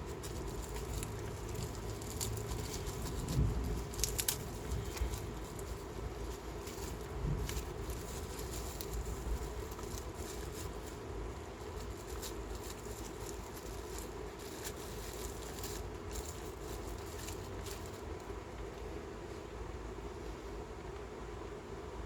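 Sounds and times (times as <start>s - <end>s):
light ticks and scratching: 0.0s - 19.6s
small machine humming: 0.0s - 22.0s.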